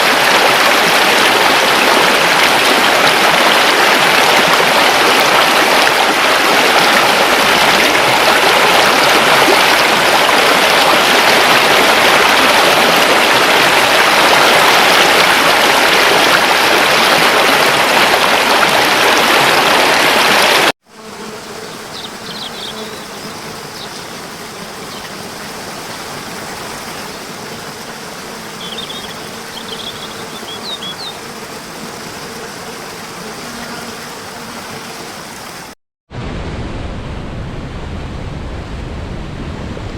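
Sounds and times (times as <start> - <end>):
water rushing: 0.0 - 20.8, 21.4 - 39.9
quiet water sound: 0.0 - 39.9.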